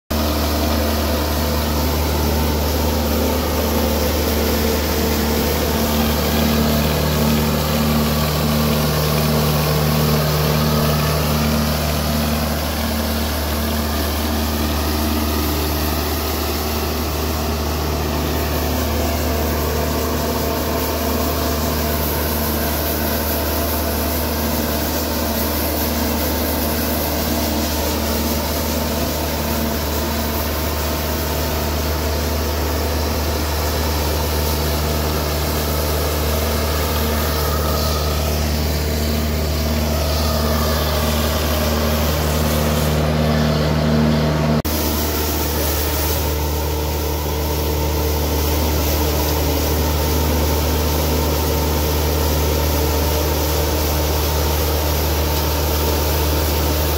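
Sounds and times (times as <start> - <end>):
rotating brushes scrubbing concrete: 0.1 - 56.9
street sweeper diesel engine running: 0.1 - 56.9.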